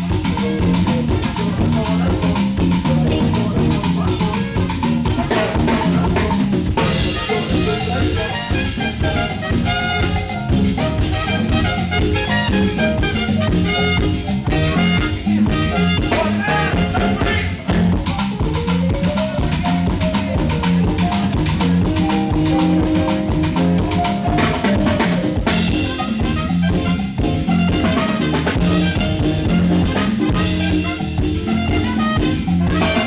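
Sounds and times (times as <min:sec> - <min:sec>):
latin dance band playing: 0:00.0 - 0:33.0.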